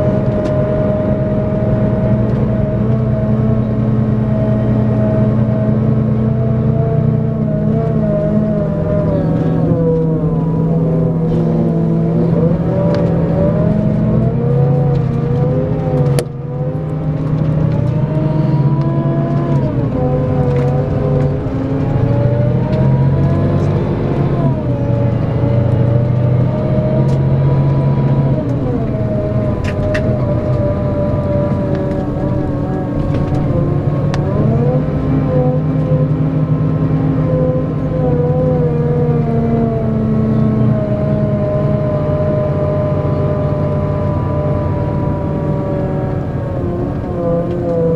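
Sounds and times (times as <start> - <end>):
diesel engine pulling under load: 0.0 - 47.9.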